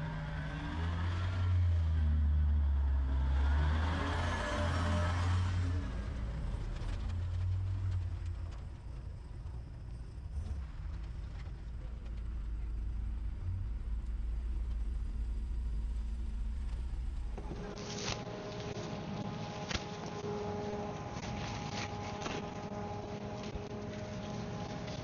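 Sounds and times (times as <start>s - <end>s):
motor vehicle rumbling: 0.0s - 25.0s.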